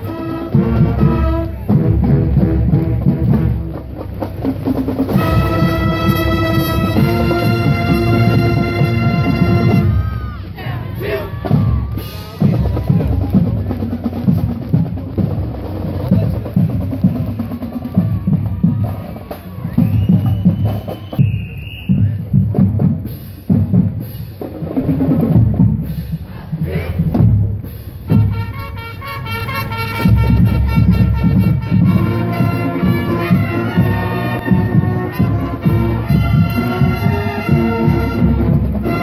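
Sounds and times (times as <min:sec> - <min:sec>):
snare drums: 0:00.0 - 0:10.0, 0:11.3 - 0:26.0, 0:26.6 - 0:39.0
bass drums: 0:00.0 - 0:28.6, 0:29.9 - 0:39.0.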